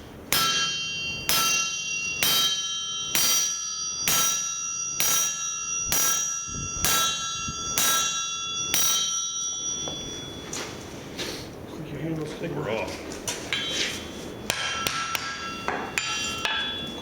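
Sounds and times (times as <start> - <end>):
sledgehammer striking steel: 0.3 - 10.5, 13.5 - 17.0.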